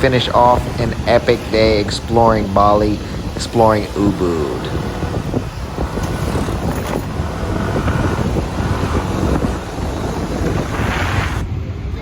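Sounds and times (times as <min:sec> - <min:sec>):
scooter engine and road rumble: 0:00.0 - 0:12.0
wind buffeting microphone: 0:00.0 - 0:12.0.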